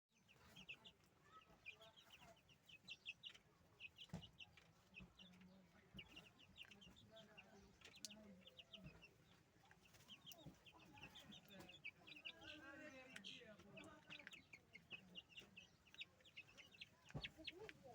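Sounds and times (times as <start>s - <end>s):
chickens clucking: 0.1s - 17.9s.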